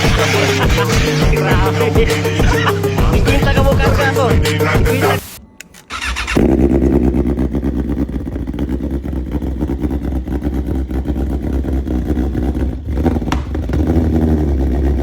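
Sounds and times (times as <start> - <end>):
motorcycle engine running: 0.0 - 5.2, 5.9 - 15.0.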